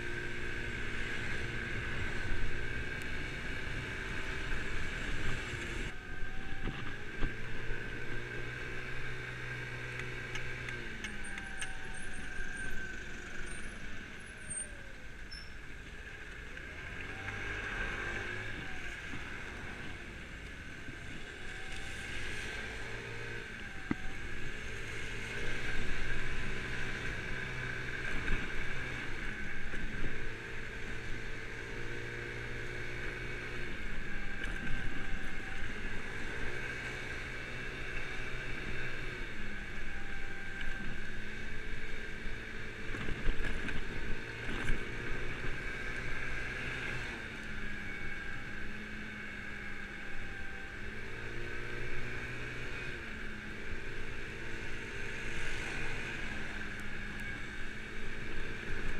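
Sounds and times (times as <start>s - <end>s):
wind and tyres on wet road: 0.0s - 58.9s.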